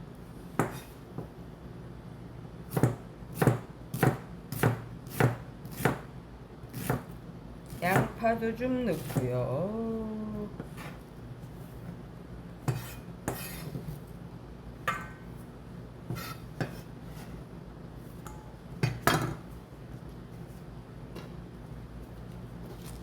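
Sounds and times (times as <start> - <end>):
low steady hum: 4.4 - 23.0.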